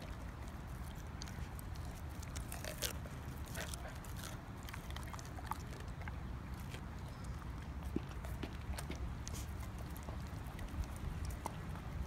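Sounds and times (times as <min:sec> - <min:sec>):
dog chewing raw fish: 0:00.0 - 0:12.0.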